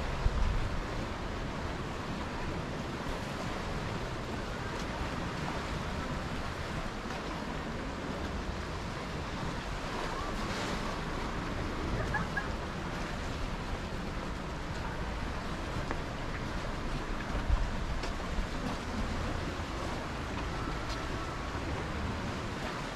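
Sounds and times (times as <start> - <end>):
surf washing against rocks: 0.0 - 22.9
wind: 0.0 - 22.9.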